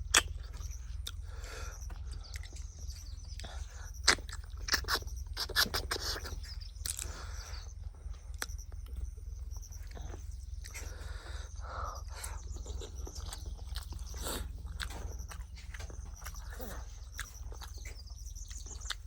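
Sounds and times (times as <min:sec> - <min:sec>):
chewing with mouth clicks: 0:00.0 - 0:11.2, 0:11.9 - 0:19.0
steady low hum: 0:00.0 - 0:19.0.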